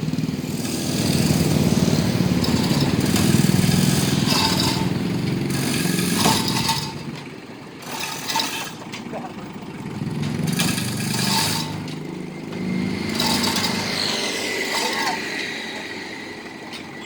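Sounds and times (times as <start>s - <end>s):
vehicle engine at low revs: 0.0s - 17.0s.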